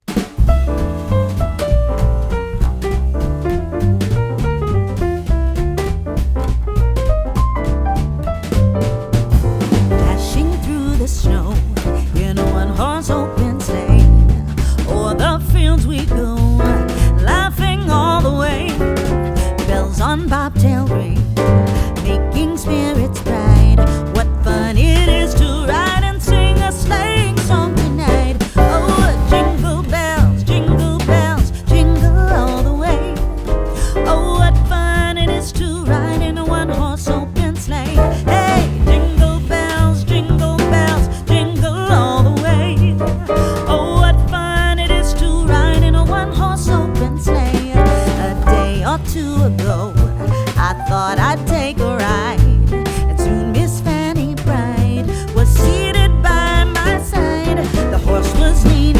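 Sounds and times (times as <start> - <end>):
song with vocals bass and drums: 0.0 - 58.9.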